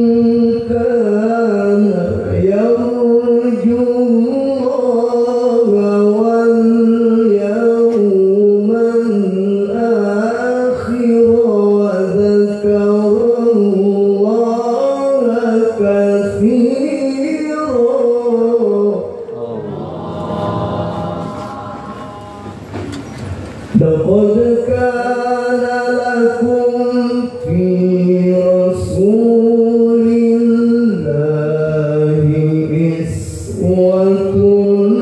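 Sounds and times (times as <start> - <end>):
man chanting melodically: 0.0 - 22.8, 23.7 - 35.0.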